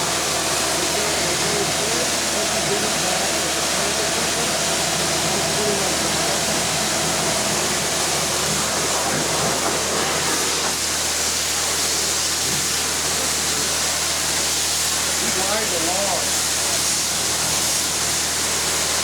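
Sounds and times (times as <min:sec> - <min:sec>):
high-pressure water spray hissing: 0:00.0 - 0:19.0
pump motor humming: 0:00.0 - 0:19.0.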